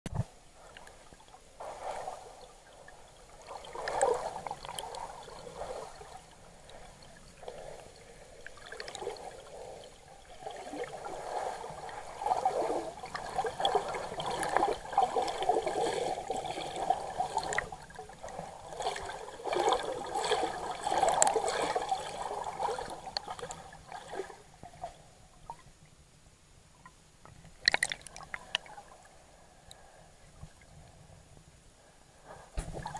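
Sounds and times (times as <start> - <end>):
muffled underwater sloshing: 0.1 - 26.0, 26.8 - 32.9.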